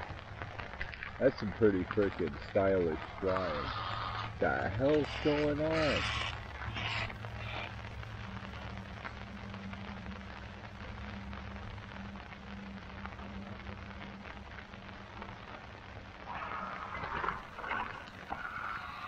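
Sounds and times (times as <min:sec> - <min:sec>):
rain pattering on a tarp: 0:00.0 - 0:19.0.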